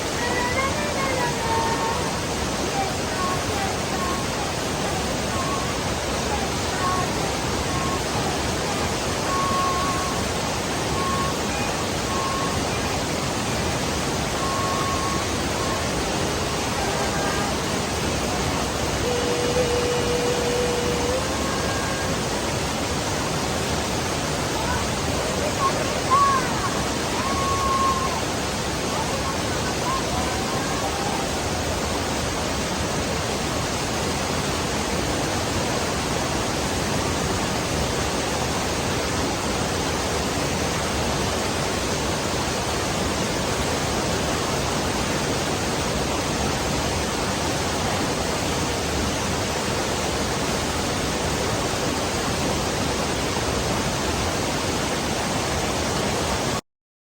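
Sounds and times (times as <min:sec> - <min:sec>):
waterfall roaring: 0:00.0 - 0:56.6.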